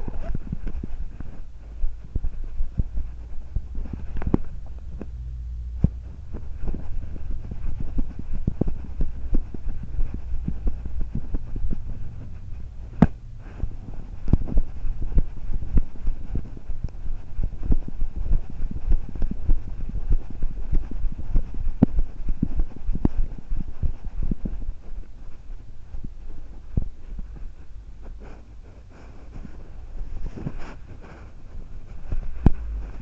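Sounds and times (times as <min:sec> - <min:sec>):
knocking and rubbing on camera: 0:00.0 - 0:05.2, 0:05.8 - 0:33.0
steady low rumble: 0:00.0 - 0:33.0.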